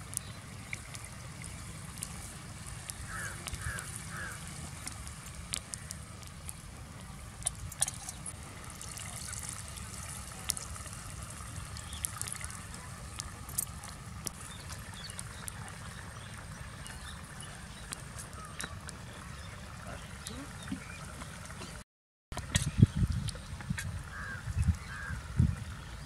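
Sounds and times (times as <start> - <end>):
liquid trickling into a pot: 0.0 - 21.8.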